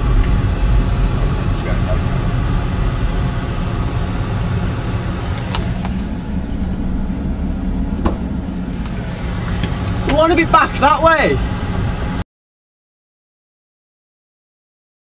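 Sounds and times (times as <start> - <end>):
car engine and road rumble: 0.0 - 12.2.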